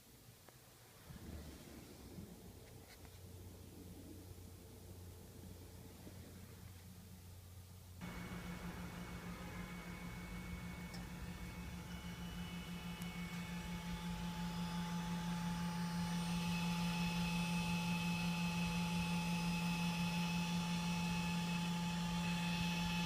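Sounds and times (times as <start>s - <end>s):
low electrical hum with whining: 0.0s - 23.0s.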